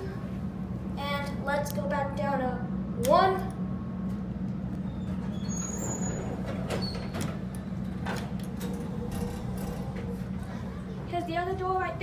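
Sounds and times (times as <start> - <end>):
elevator hum and rumble: 0.0 - 12.0.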